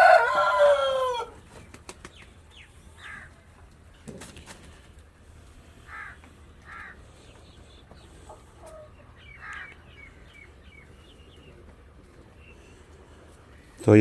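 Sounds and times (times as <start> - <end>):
birds harsh calls: 0.0 - 14.0.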